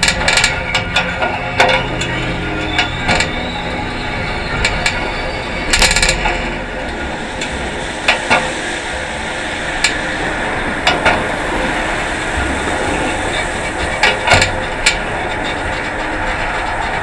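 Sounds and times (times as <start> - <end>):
bicycle clanking and rattling: 0.0 - 9.0, 10.8 - 11.4, 12.1 - 17.0
road and wind noise: 0.0 - 17.0.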